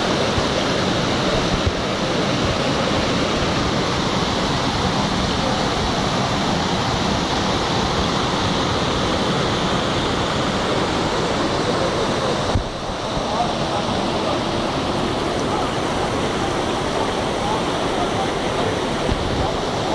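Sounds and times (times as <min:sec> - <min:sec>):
water rushing from pipe: 0:00.0 - 0:19.9.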